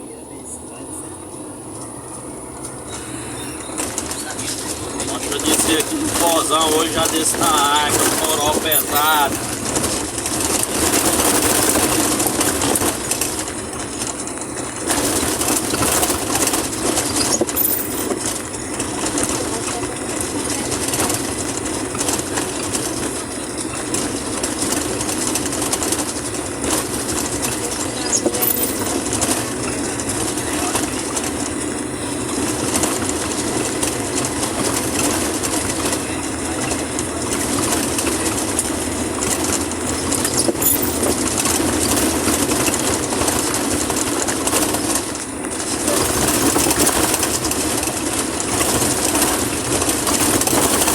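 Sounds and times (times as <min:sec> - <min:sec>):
tyres on wet road: 0:00.0 - 0:50.9
vehicle engine running: 0:00.0 - 0:50.9.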